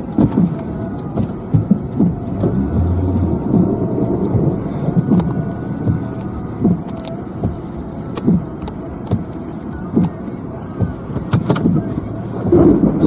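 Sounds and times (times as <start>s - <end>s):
vehicle rumble: 0.0s - 13.0s
scattered clicks: 0.2s - 10.2s, 10.8s - 13.0s.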